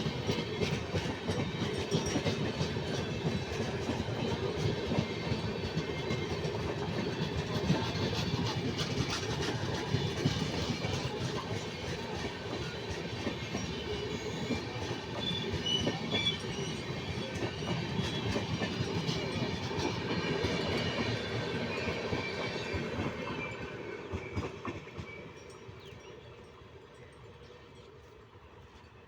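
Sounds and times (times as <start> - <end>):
train wheels clattering on track: 0.0 - 29.0.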